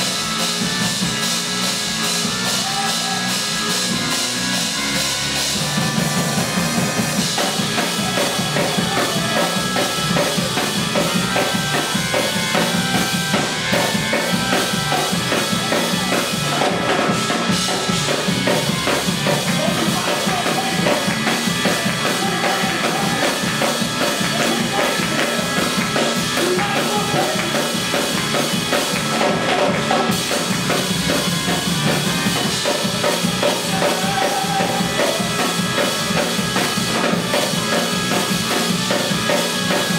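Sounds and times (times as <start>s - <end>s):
band music with drum kit: 0.0s - 39.9s.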